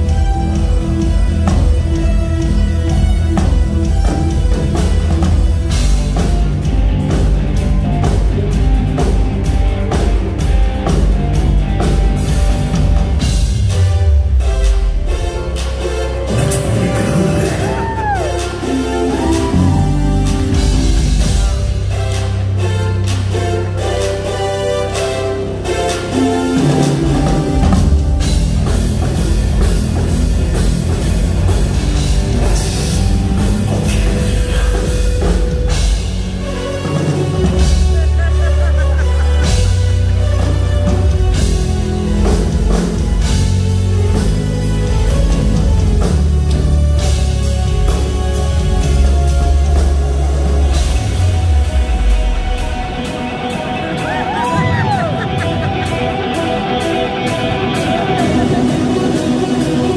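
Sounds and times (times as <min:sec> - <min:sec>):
loud live rock band: 0:00.0 - 0:59.9.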